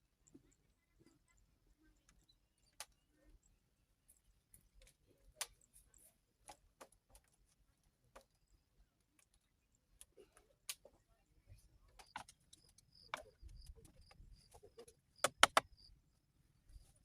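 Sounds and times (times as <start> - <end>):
faint small clicks and ticks: 0.2 - 15.9.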